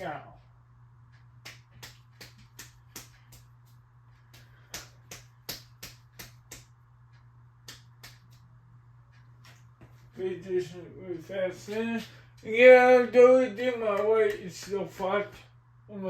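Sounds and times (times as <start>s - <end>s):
ceiling fan clicking: 0.0s - 16.0s
ceiling fan motor hum: 0.0s - 16.0s.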